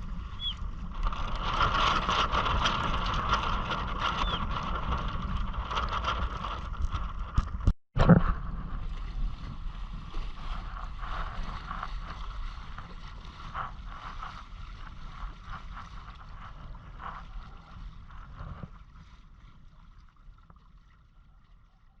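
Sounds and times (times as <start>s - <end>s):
wind buffeting microphone: 0.0s - 19.2s
water noise of kayak: 0.0s - 22.0s.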